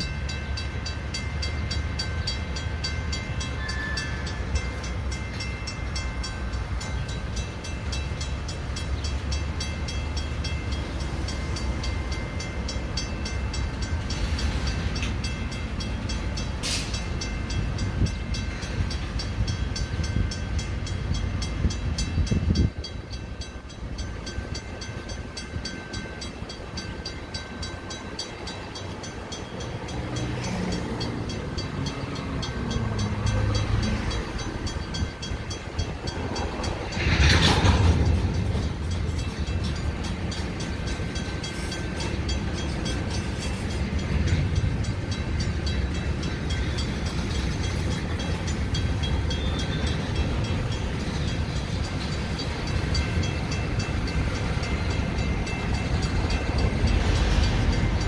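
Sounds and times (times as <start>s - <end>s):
crossing signal bell ringing: 0.0s - 58.0s
steel wheels rumbling on rail: 0.0s - 58.0s.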